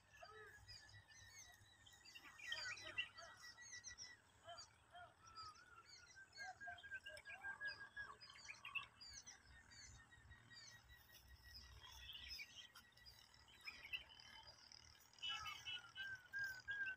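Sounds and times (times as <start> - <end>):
small birds chirping and whistling: 0.0 - 16.9.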